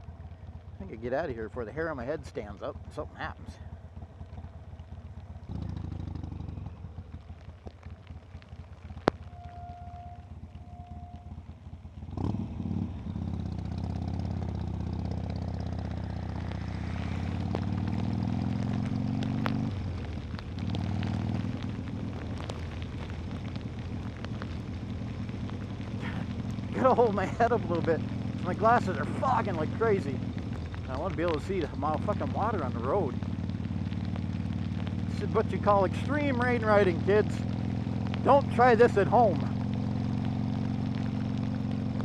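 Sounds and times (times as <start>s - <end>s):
rain: 0.0s - 42.0s
motorcycle engine accelerating: 1.8s - 42.0s.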